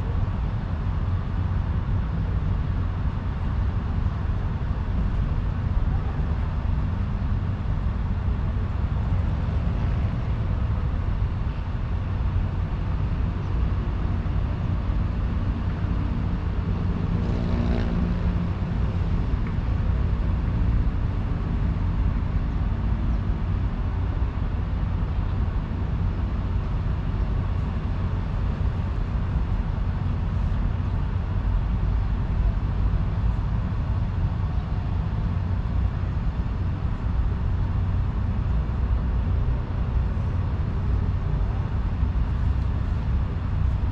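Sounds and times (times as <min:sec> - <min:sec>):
distant engines rumbling: 0:00.0 - 0:43.9.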